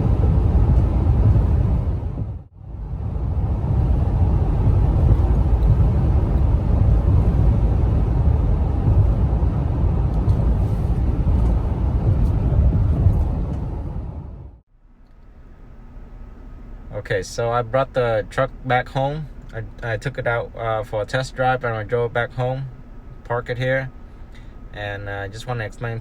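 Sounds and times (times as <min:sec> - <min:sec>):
road and wind noise from truck: 0:00.0 - 0:26.0.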